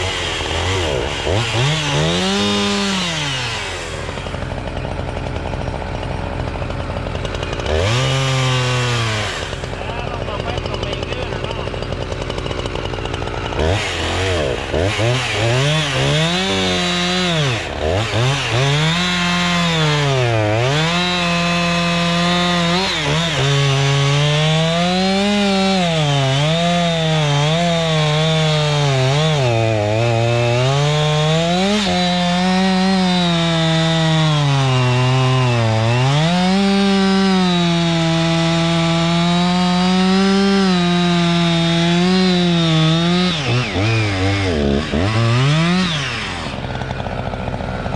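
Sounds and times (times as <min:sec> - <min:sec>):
chainsaw revving and cutting logs: 0:00.0 - 0:47.9.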